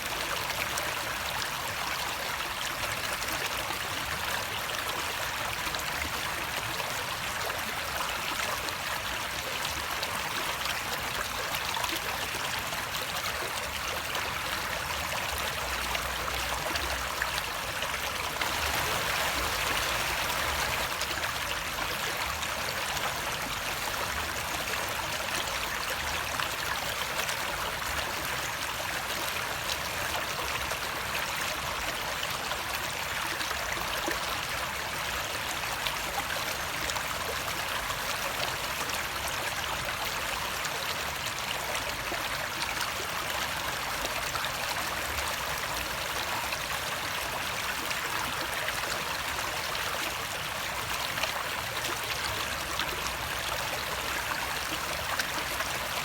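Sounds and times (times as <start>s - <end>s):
water flowing: 0.0s - 31.1s, 40.9s - 56.0s.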